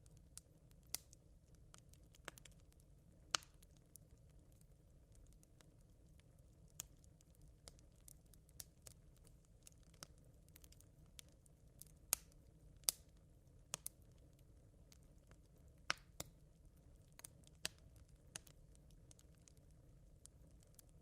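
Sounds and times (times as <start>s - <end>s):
campfire embers crackling: 0.0s - 21.0s.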